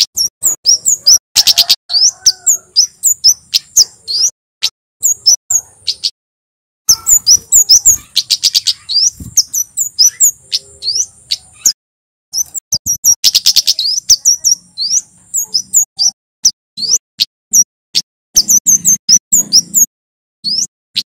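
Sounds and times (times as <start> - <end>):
bird chattering trills: 0.0 - 4.3, 5.0 - 6.2, 6.9 - 21.0
bird high chirps: 0.0 - 6.2, 6.9 - 21.0.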